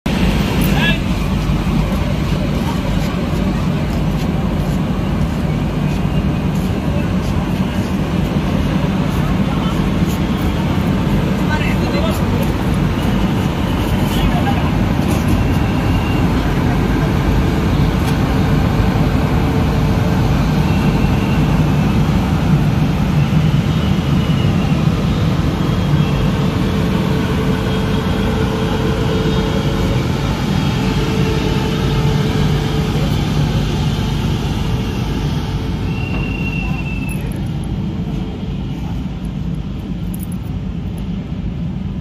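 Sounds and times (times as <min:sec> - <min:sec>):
train wheels rumbling on rail: 0:00.1 - 0:42.0.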